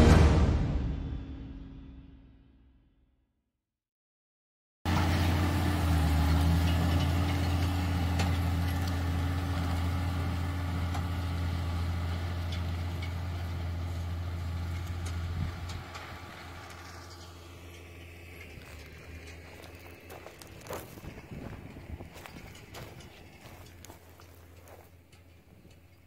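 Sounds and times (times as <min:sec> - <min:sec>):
tractor diesel engine running: 0:04.9 - 0:26.0.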